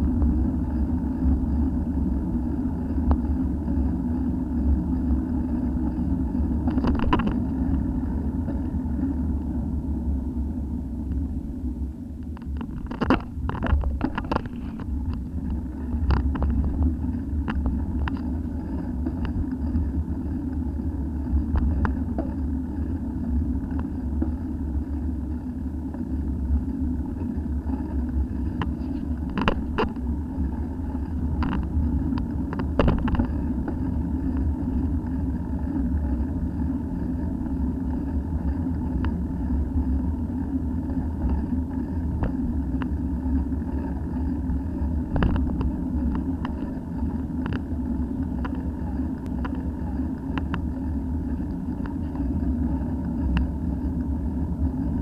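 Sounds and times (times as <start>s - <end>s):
bicycle knocking and rattling: 0.0s - 9.2s, 12.2s - 55.0s
bicycle riding rumble: 0.0s - 55.0s.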